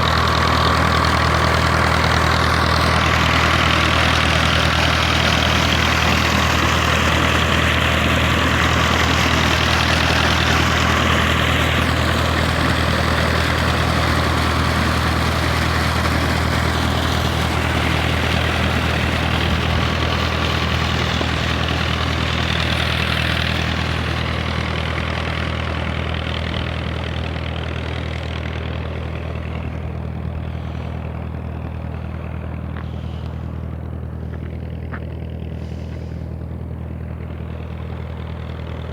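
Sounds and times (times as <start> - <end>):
centrifugal water pump: 0.0 - 31.6
engine running steadily: 0.0 - 38.9.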